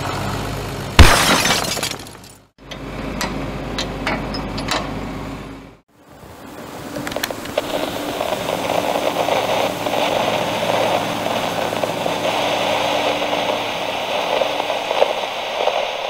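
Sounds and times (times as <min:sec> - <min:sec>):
tractor diesel engine running: 0:00.0 - 0:01.2, 0:02.1 - 0:16.0.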